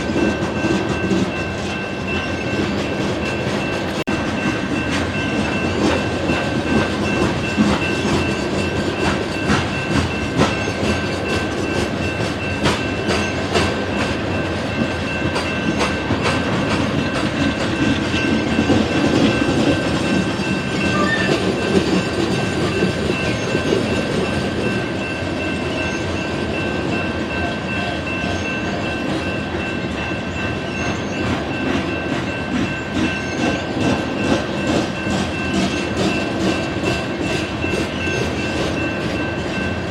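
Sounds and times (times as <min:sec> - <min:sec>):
high whine of wheels on rails: 0:00.0 - 0:39.9
train wheels clicking over rail joints: 0:00.0 - 0:39.9.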